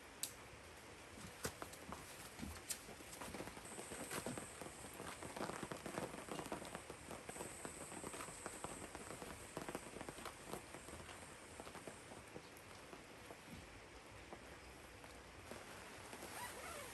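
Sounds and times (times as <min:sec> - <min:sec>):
raindrops pattering on a surface: 0:00.0 - 0:16.9
steady hiss of rainfall: 0:00.0 - 0:16.9.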